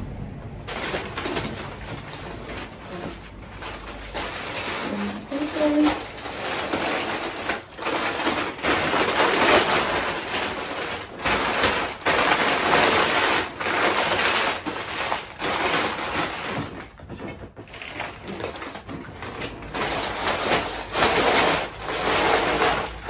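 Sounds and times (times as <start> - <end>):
artificial florals and paper rustling: 0.6 - 23.0.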